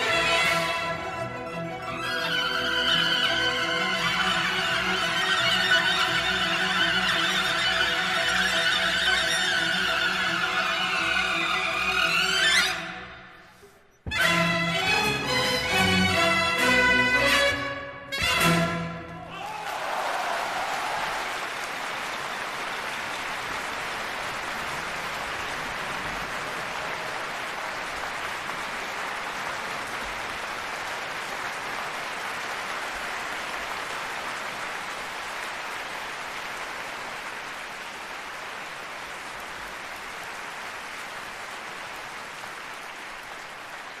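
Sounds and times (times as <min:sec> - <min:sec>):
audience applauding: 0:00.0 - 0:13.7, 0:18.3 - 0:44.0.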